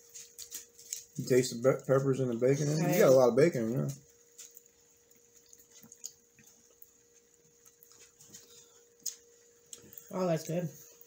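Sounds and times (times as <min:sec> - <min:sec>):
faint steady hum: 0:00.0 - 0:11.0
people chewing: 0:00.0 - 0:11.0.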